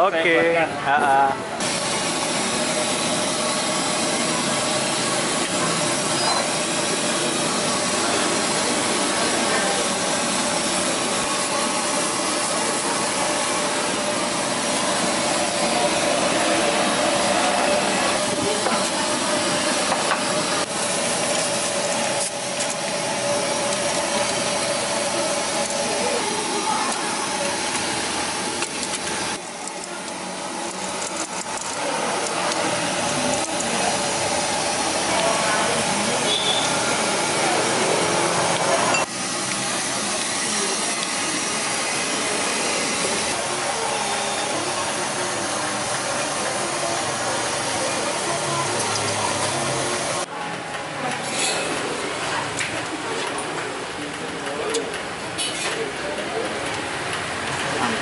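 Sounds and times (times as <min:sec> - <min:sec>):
boiling water hissing: 0:01.6 - 0:50.3.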